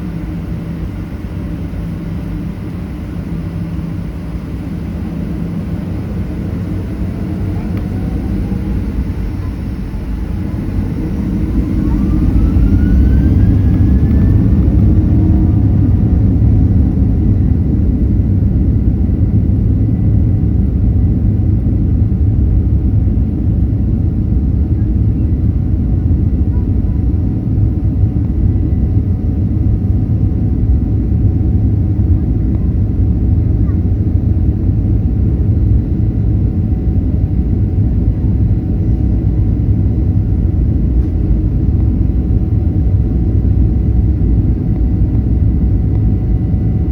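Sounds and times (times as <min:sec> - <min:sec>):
faint engine whine: 0:00.0 - 0:46.9
jet engine rumble in cabin: 0:00.0 - 0:46.9.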